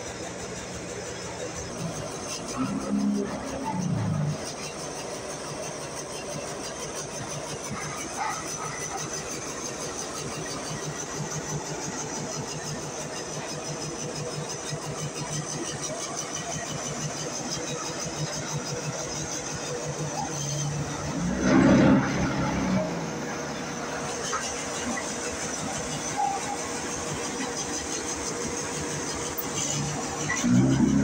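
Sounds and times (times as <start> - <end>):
block machine pulsing hum: 0.0 - 31.0.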